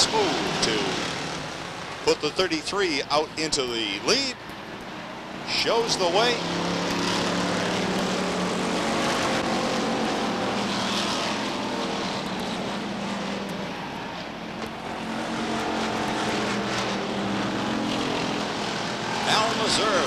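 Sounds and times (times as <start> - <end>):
race car engines at speed: 0.0 - 20.0.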